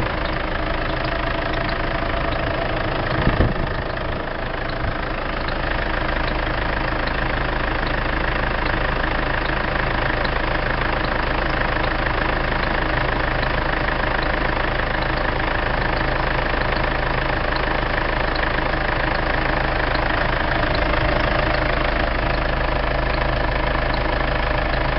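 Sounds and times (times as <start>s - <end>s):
diesel engine idling: 0.0s - 24.9s
faint high engine squeak: 0.0s - 24.9s.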